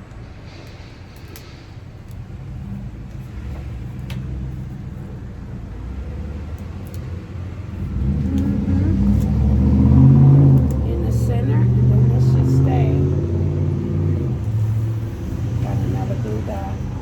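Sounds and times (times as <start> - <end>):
car passing by: 0.2 - 17.0.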